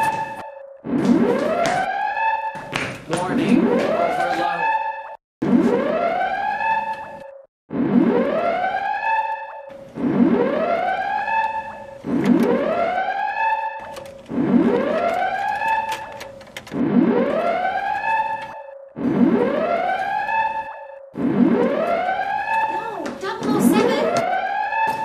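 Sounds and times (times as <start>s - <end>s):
whooping alarm siren: 0.0s - 25.0s.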